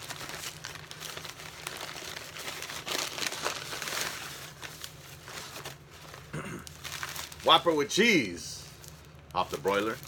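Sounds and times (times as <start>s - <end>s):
paper wrapper crinkling: 0.0s - 10.0s.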